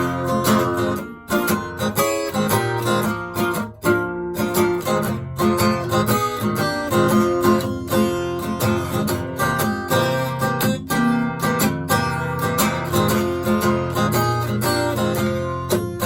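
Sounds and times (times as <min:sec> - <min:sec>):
acoustic guitar strumming blues: 0:00.0 - 0:16.0.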